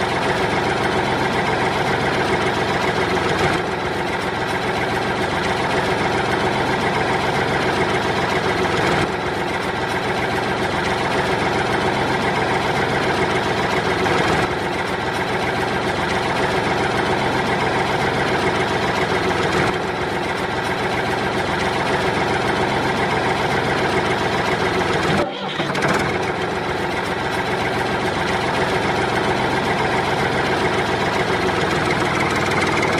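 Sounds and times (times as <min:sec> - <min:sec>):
heavy engine idling: 0:00.0 - 0:32.9.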